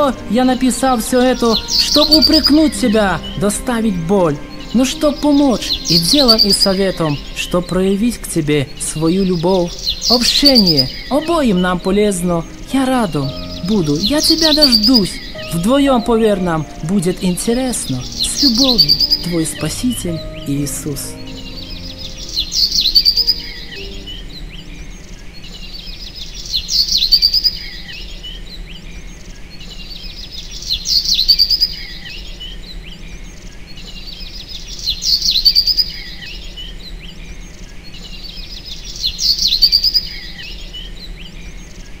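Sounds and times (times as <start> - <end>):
bird chirping phrase with trill: 0.0 - 42.0.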